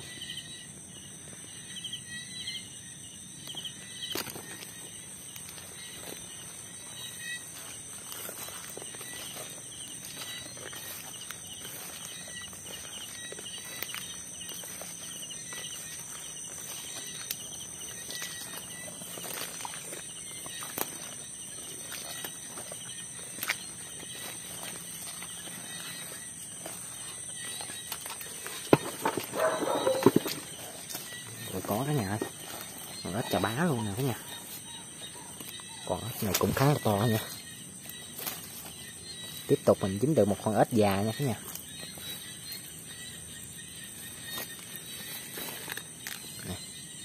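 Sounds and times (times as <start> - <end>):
insect chirping trills: 0.0 - 47.0
insects droning: 0.0 - 47.0
footsteps in grass: 3.4 - 47.0.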